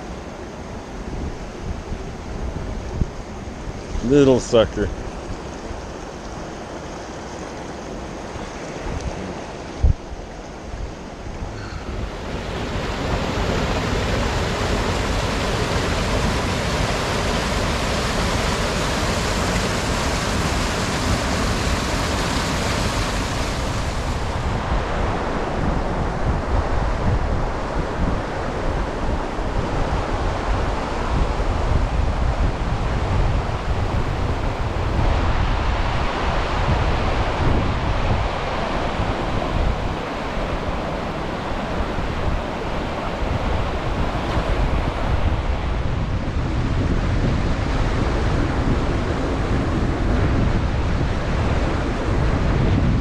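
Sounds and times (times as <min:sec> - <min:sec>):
rushing river water: 0:03.3 - 0:46.2
wind buffeting microphone: 0:07.9 - 0:53.0.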